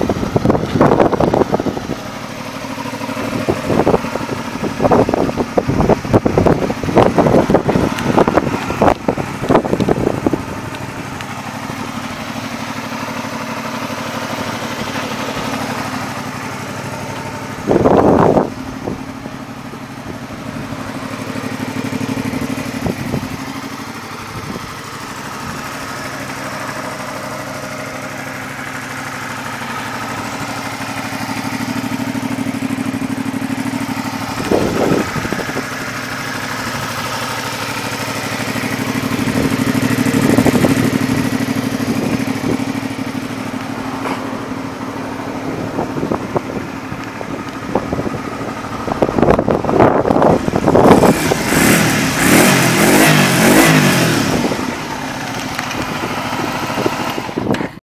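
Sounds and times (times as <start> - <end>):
motorcycle engine idling: 0.0 - 57.8.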